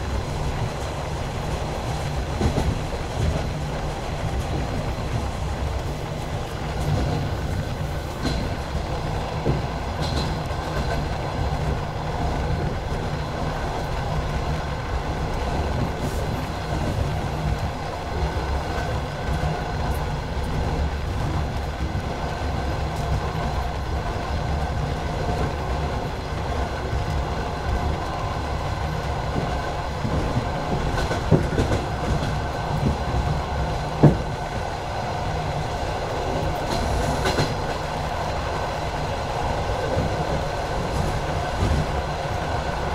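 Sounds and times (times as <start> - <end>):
train wheels rumbling on rails: 0.0 - 42.9
sharp knocks of train wheels: 0.2 - 14.4, 18.3 - 34.7, 35.4 - 42.9.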